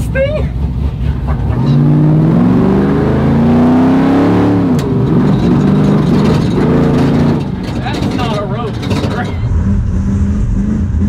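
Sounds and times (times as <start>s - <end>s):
race engine pulling hard: 0.0s - 11.0s.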